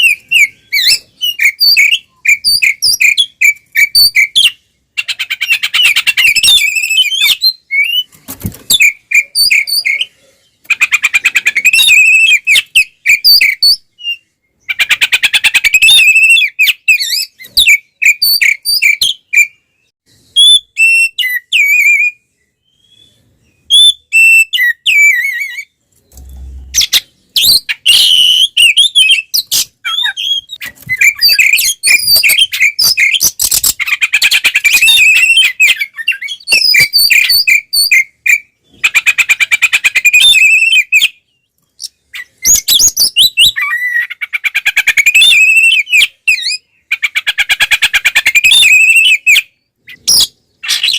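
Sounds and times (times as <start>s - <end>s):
fast repeated bird chattering: 0.0s - 19.6s, 23.6s - 50.9s
bird singing whistles and trills: 0.0s - 50.9s.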